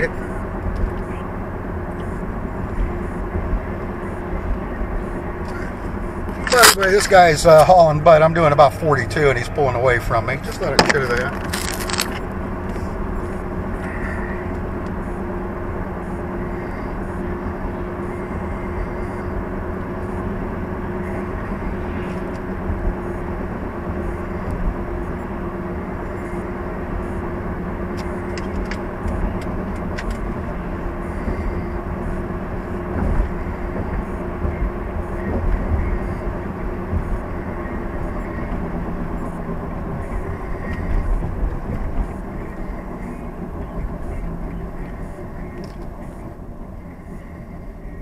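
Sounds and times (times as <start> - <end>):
constant hum: 0.0 - 48.0
road and engine rumble: 0.0 - 48.0.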